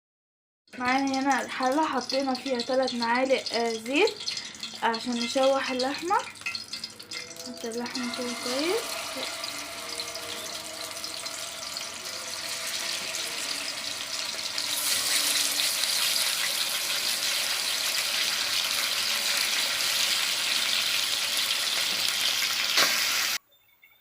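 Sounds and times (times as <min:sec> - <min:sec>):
meat sizzling in hot oil: 0:00.7 - 0:23.4.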